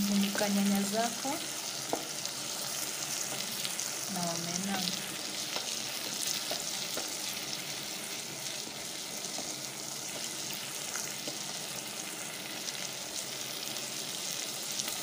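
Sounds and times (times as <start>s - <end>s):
fish frying in oil: 0.0s - 15.0s.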